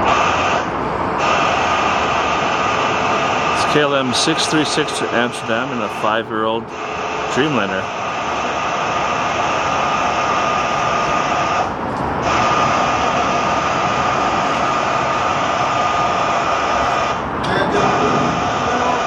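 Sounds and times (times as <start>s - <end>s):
jet airliner engines running: 0.0s - 19.0s.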